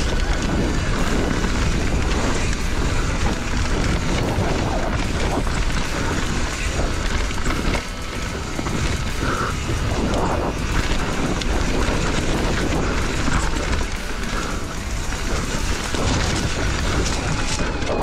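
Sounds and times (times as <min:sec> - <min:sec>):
bike knocks and rattles: 0:00.0 - 0:18.0
tyres over rough ground: 0:00.0 - 0:18.0
wind on microphone: 0:00.0 - 0:18.0.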